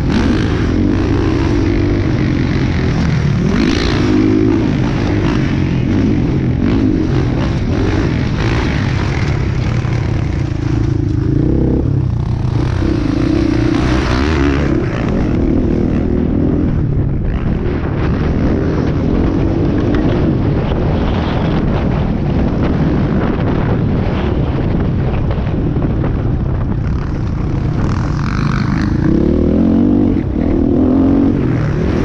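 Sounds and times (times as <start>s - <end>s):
motocross bike engine revving: 0.0s - 22.0s, 26.9s - 32.0s.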